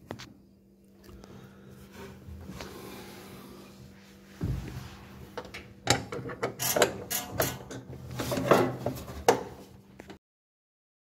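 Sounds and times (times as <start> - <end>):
faint steady hum: 0.0 - 10.2.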